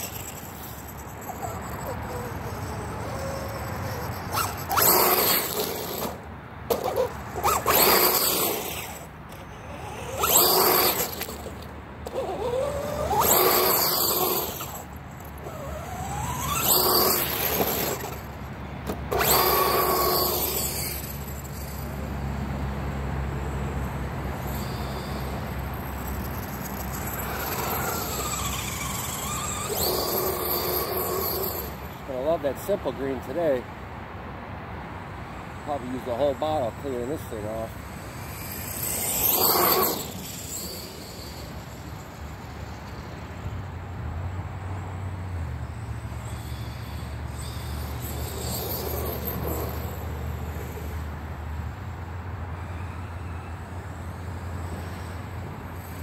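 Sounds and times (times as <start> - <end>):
rc car electric motor whining: 0.0 - 22.1, 23.5 - 32.7, 35.7 - 43.7, 45.6 - 56.0.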